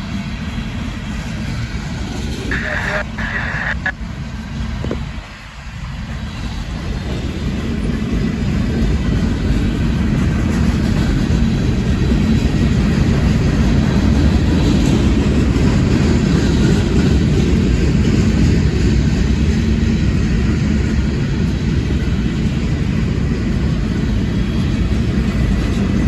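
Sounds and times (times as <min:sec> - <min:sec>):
freight train rumbling by: 0:00.0 - 0:26.0.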